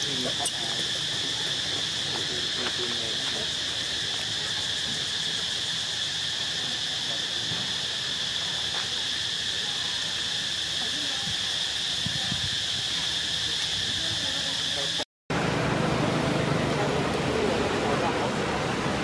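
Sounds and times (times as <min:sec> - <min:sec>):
insect chorus: 0:00.0 - 0:19.0.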